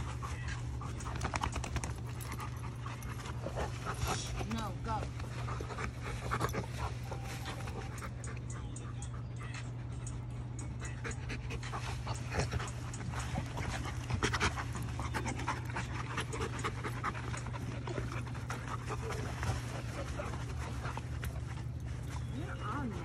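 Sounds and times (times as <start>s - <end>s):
dogs panting rapidly: 0.0s - 23.0s.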